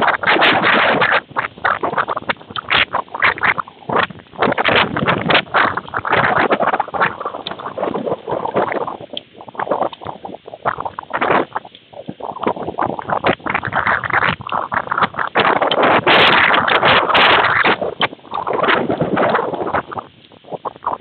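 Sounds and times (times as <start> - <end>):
gusty wind: 0.0 - 21.0
rain and hail pelting microphone: 0.0 - 21.0.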